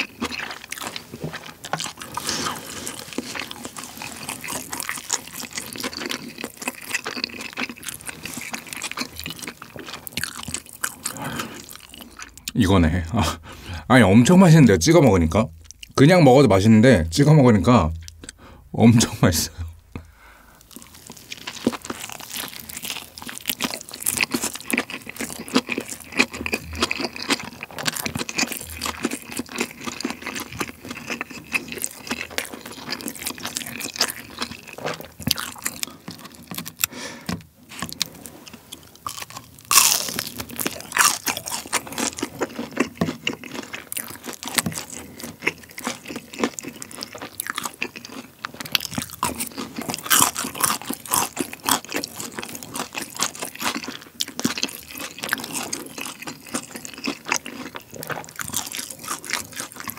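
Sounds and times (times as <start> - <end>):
close-miked chewing: 0.0 - 16.1, 18.0 - 59.9.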